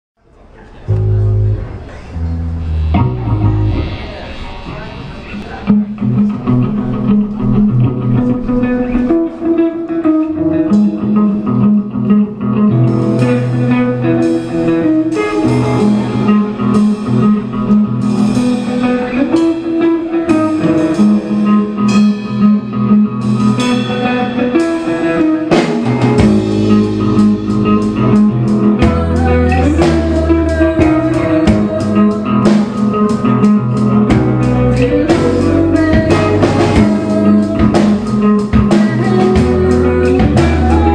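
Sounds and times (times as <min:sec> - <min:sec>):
electric guitars: 0:00.7 - 0:40.9
drum kit: 0:00.9 - 0:09.6, 0:10.4 - 0:40.9.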